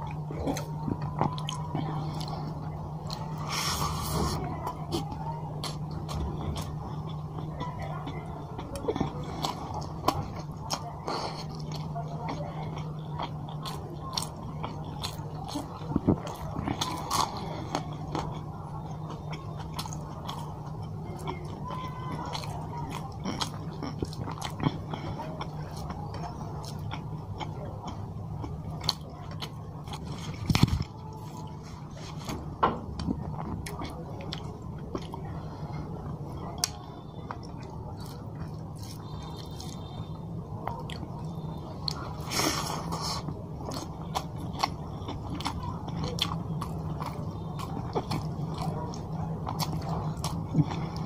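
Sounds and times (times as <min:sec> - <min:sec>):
low steady hum: 0:00.0 - 0:51.0
man chewing with wet smacks: 0:00.0 - 0:51.0.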